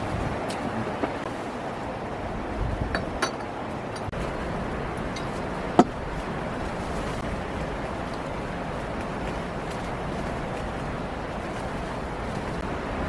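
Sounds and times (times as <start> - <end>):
rushing wind noise: 0.0 - 13.0.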